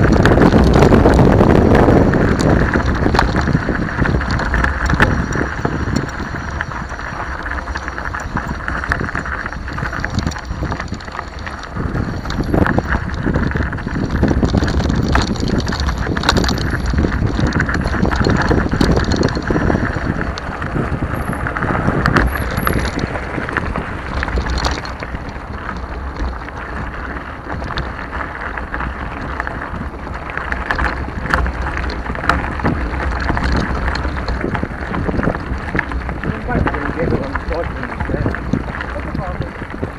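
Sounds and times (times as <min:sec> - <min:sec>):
bike parts rattling and clicking: 0:00.0 - 0:39.9
bike tyres crunching on gravel: 0:00.0 - 0:39.9
wind buffeting microphone: 0:00.0 - 0:39.9.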